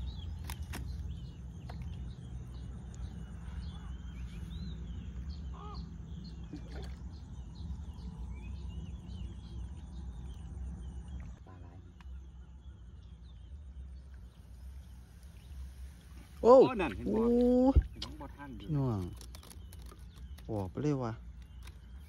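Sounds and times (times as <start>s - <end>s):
steady low rumble: 0.0s - 20.5s
small birds chirping: 0.0s - 22.0s.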